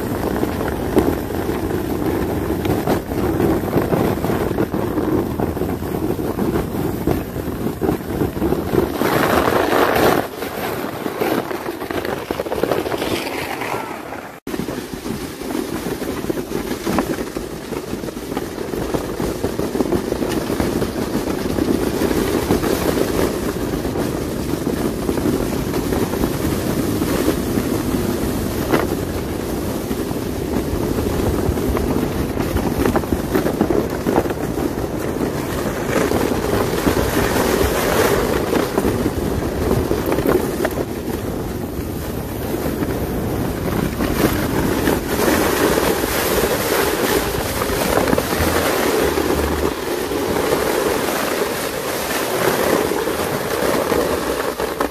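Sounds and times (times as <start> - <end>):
vehicle driving on snowy road: 0.0 - 54.9.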